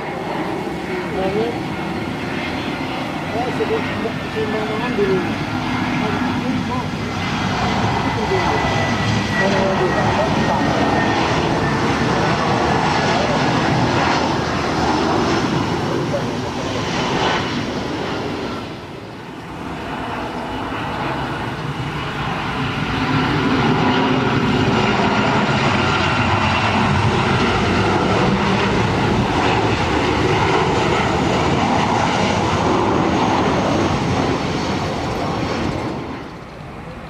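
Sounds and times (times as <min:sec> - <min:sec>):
jet aircraft passing close: 0:00.0 - 0:37.0.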